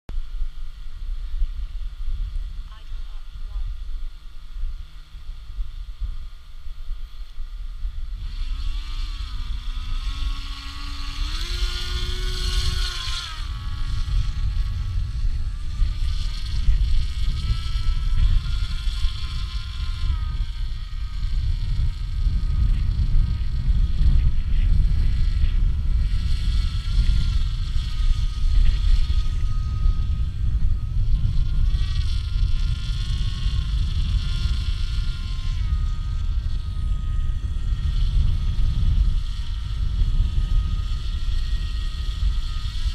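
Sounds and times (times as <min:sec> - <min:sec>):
model aircraft motor whining: 0:00.1 - 0:42.9
wind rumble on microphone: 0:00.1 - 0:42.9.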